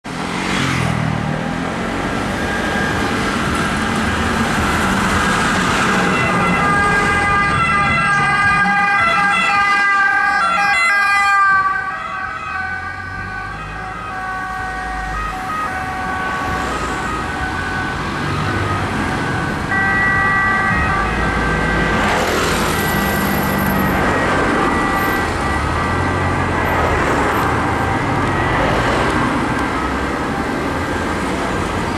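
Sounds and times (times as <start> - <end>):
engine and traffic noise: 0.0 - 31.9
emergency sirens: 0.4 - 31.9.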